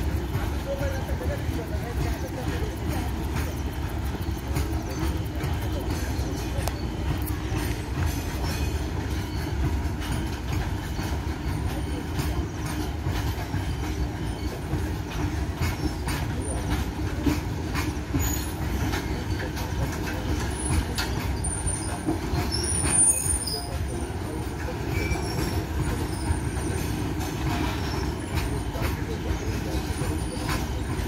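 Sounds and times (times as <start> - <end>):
train wheels rumbling on rail: 0.0 - 31.0
wheels clicking over rail joints: 0.0 - 31.0.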